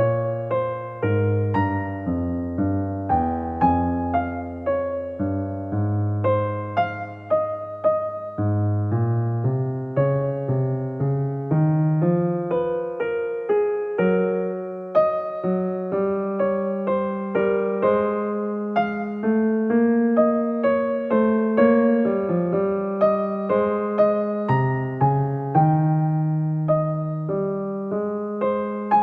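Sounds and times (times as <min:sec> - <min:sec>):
gentle piano piece: 0:00.0 - 0:29.0.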